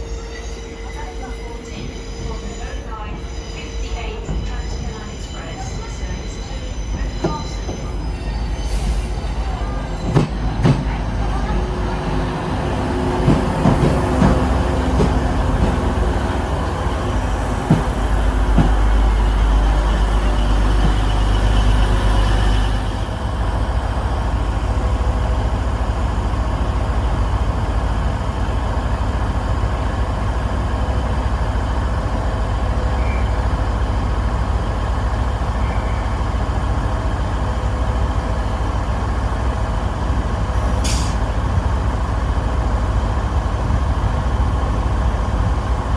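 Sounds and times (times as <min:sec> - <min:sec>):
train rumbling and clattering: 0:00.0 - 0:45.9.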